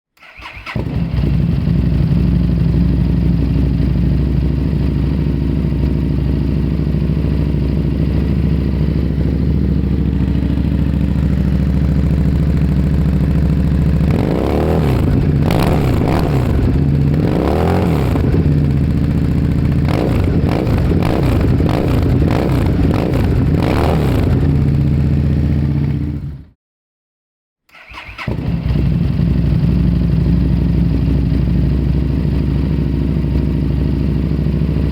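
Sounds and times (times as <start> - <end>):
motorcycle idling and revving: 0.4 - 26.6, 28.2 - 34.9.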